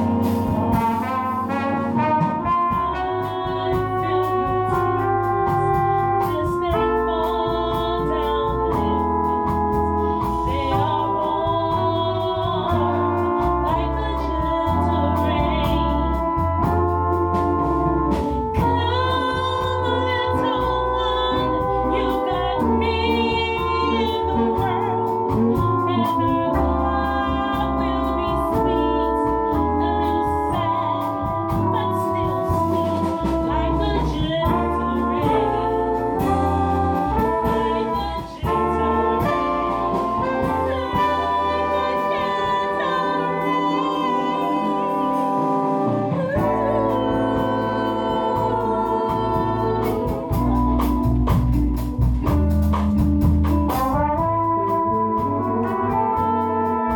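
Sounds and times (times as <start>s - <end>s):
live band with brass: 0.0s - 56.9s
woman singing bossa nova: 0.0s - 56.9s.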